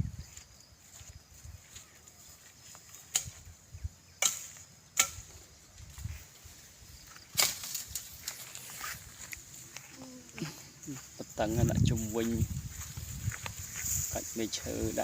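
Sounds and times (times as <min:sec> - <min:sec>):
faint high-pitched hiss: 0:00.0 - 0:15.0.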